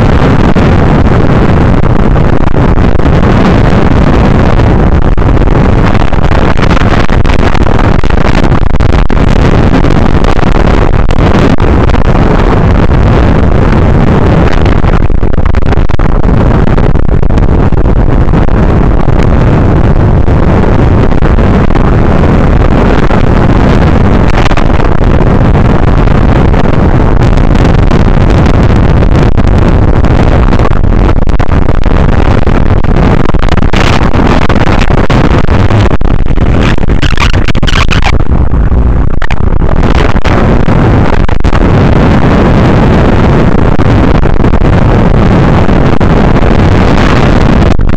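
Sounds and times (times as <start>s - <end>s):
strong wind on microphone: 0.0s - 47.9s.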